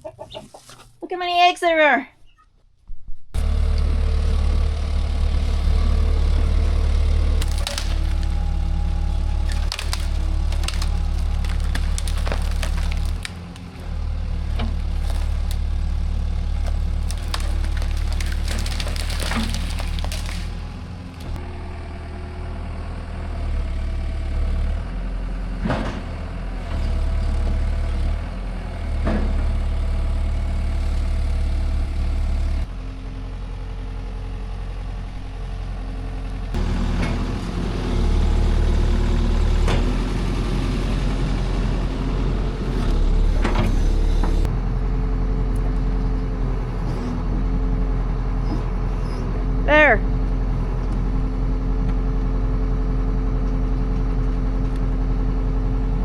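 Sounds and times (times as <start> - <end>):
excavator diesel engine running: 3.4 - 56.0.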